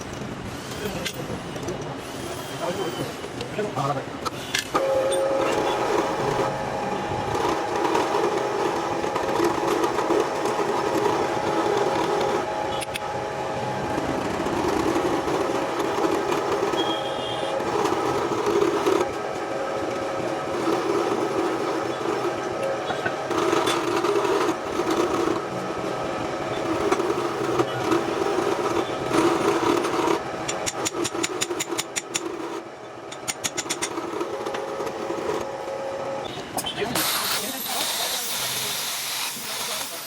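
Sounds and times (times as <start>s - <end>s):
workshop machine humming: 0.0s - 40.0s.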